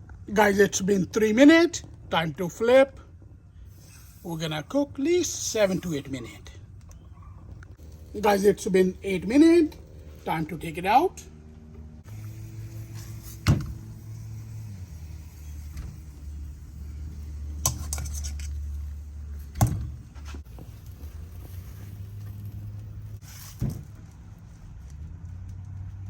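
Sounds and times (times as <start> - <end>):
steady low hum: 0.0 - 23.2.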